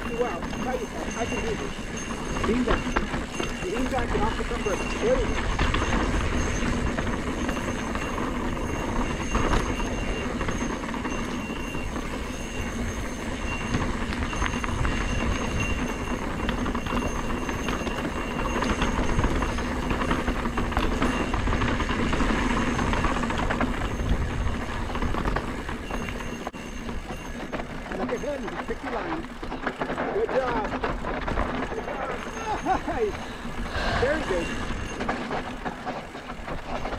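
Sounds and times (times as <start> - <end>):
bike chain and frame rattling: 0.0 - 36.9
bike tyres crunching over dirt: 0.0 - 36.9
wind buffeting microphone: 0.0 - 36.9.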